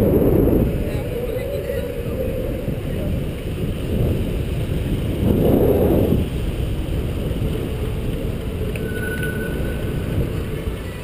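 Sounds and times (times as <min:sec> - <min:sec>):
road rumble: 0:00.0 - 0:11.0
wind rushing over microphone: 0:00.0 - 0:11.0.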